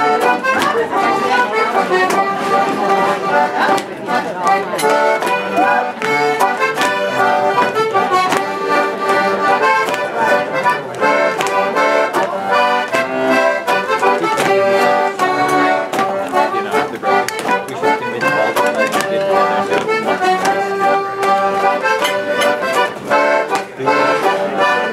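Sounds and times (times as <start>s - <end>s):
piano accordion dance tune: 0.0s - 24.9s.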